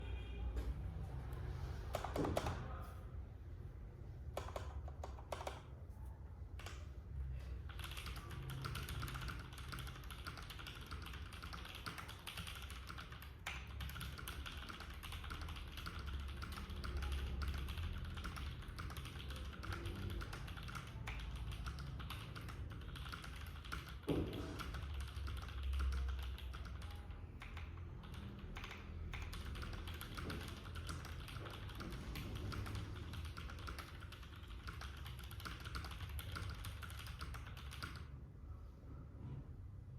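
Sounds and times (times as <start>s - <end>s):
mechanical keyboard typing: 1.9s - 2.8s, 4.3s - 5.8s, 6.5s - 6.9s, 7.6s - 38.2s.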